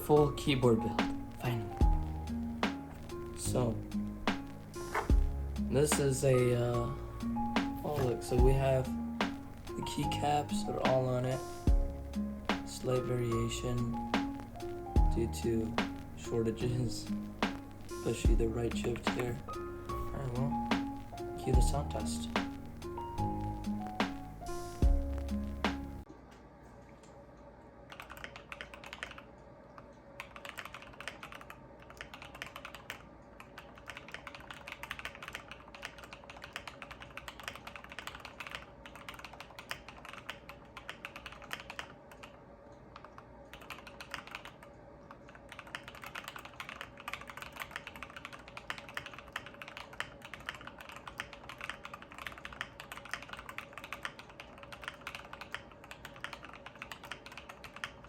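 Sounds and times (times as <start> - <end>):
mechanical keyboard typing: 0.0 - 5.2, 5.8 - 11.9, 12.5 - 26.0, 27.9 - 29.3, 30.2 - 58.0.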